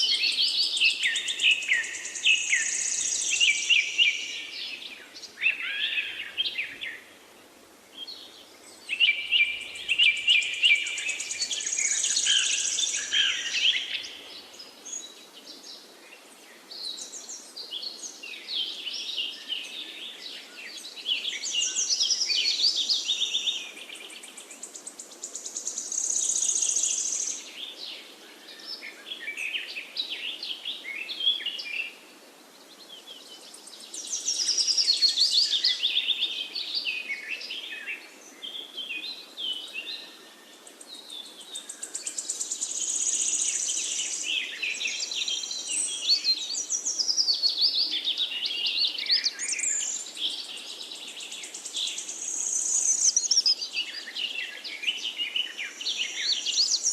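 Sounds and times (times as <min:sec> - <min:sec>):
faint background hiss: 0:00.0 - 0:56.9
songbirds chirping and warbling: 0:00.0 - 0:56.9.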